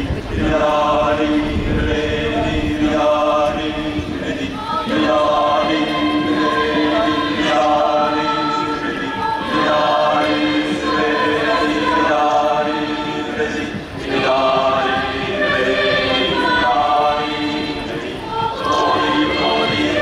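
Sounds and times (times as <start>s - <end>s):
choir singing in parts: 0.0s - 20.0s.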